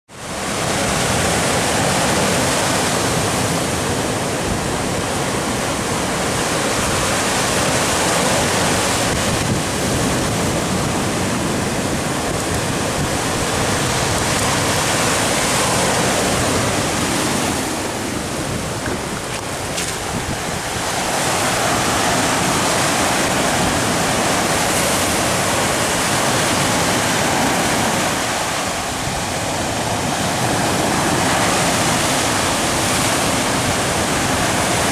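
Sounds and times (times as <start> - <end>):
surf washing against rocks: 0.1 - 34.9
wind buffeting microphone: 0.3 - 34.9.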